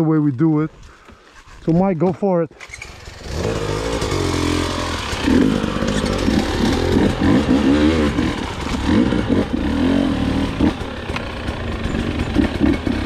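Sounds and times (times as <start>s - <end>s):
dirt bike engines revving: 1.3s - 13.0s.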